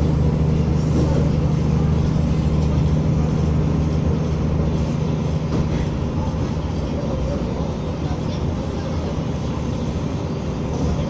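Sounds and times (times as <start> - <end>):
diesel engine drone: 0.0 - 11.0
wheel and rail rumble: 0.0 - 11.0.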